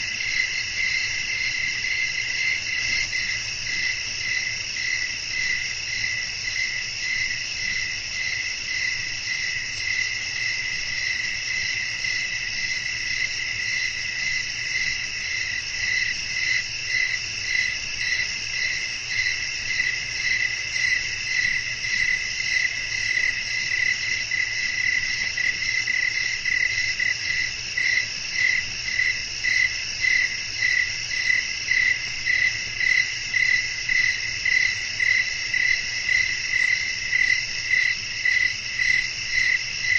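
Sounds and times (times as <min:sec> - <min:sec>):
crickets and insects chirping: 0:00.0 - 0:39.9
pulsing insect call: 0:00.0 - 0:39.9.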